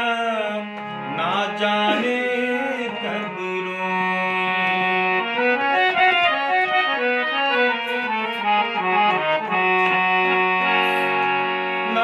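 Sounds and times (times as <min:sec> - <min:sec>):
keyboard melody with organ-like tone: 0:00.0 - 0:12.0.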